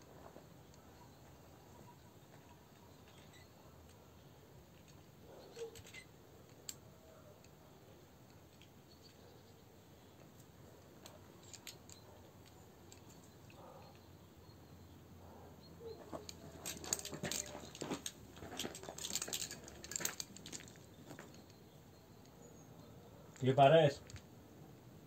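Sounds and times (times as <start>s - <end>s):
faint outdoor background: 0.0s - 25.0s
light clicks and rattles: 0.1s - 22.4s, 23.3s - 24.3s.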